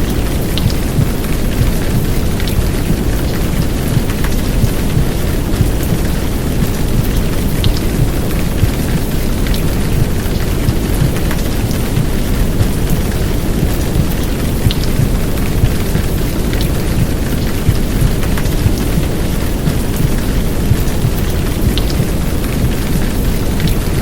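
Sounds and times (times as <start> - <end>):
heavy downpour rain: 0.0 - 24.0
rain drops ticking: 0.0 - 24.0.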